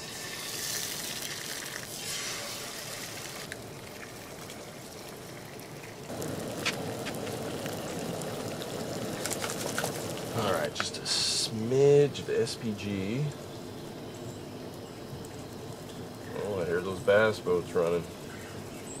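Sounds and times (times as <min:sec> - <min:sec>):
eggs sizzling in a skillet: 0:00.0 - 0:18.3.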